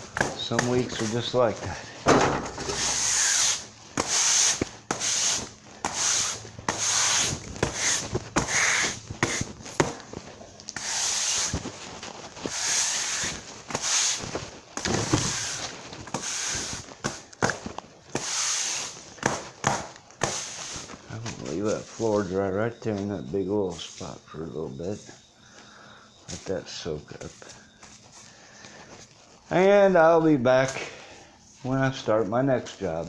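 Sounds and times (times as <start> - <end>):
broom sweeping concrete floor: 0.0 - 19.6, 20.2 - 25.2, 26.2 - 29.7.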